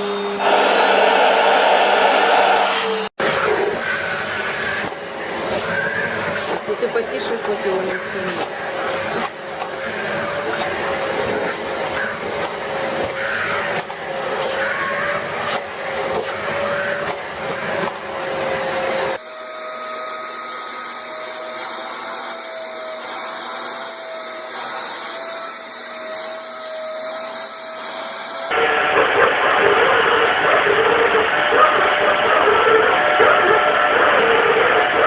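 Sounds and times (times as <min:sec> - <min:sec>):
higher-pitched vacuum cleaner: 0:00.0 - 0:35.0
vacuum cleaner running: 0:00.0 - 0:35.0.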